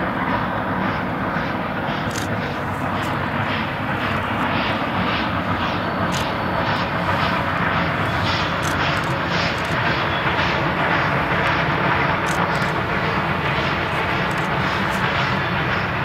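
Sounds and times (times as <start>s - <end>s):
steady rumble: 0.0s - 16.0s
steam locomotive exhaust chuffing: 0.0s - 16.0s.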